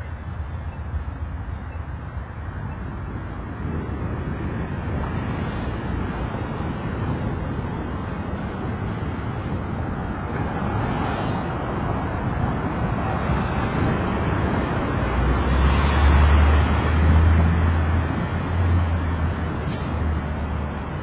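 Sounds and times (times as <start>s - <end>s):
vehicle road and wind noise: 0.0s - 21.0s.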